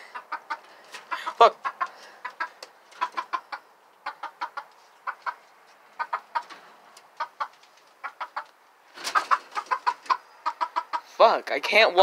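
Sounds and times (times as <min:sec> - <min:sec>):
chicken clucking: 0:00.0 - 0:11.4.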